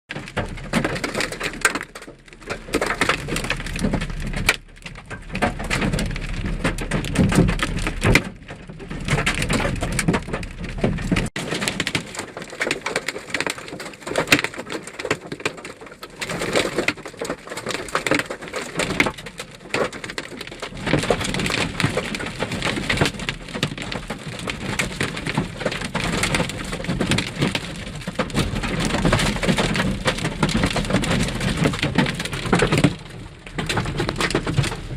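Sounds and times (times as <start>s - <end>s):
hailstones pelting a vehicle: 0.1s - 34.9s
rain: 0.1s - 34.9s.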